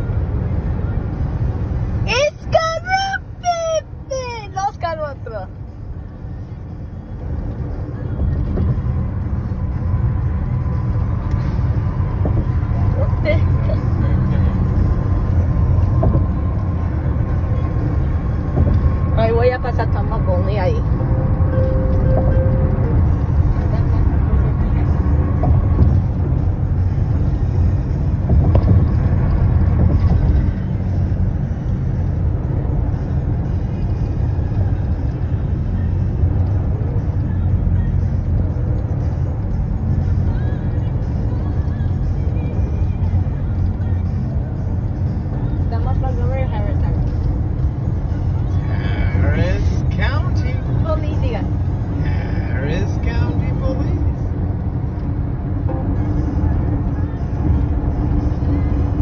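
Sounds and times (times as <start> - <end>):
engine drone: 0.0 - 59.0
road and tyre noise in car: 0.0 - 59.0.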